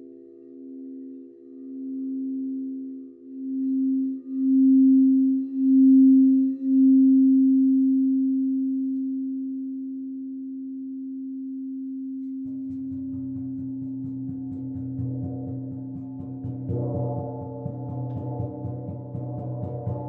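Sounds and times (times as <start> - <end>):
singing bowl tone: 0.0 - 20.0.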